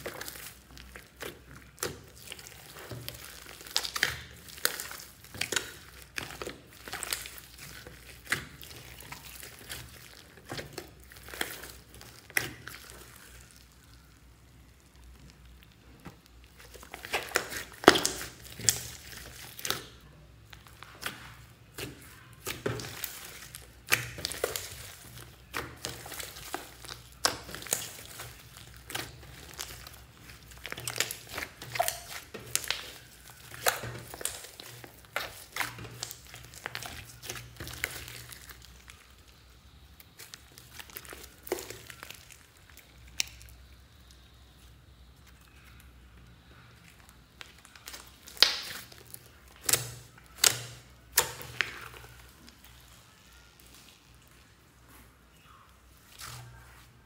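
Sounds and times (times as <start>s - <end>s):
hands squelching wet slime: 0.0s - 57.0s.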